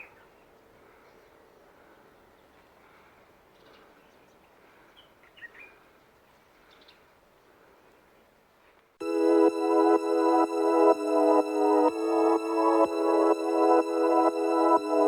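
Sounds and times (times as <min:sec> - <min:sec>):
outdoor ambience: 0:00.0 - 0:15.0.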